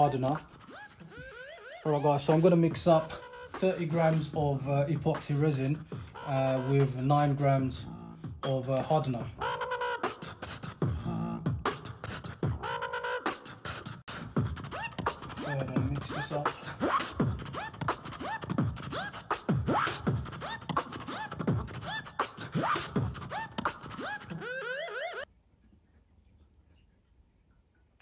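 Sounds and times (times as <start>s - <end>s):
vocal beatbox beat: 0.0s - 24.4s.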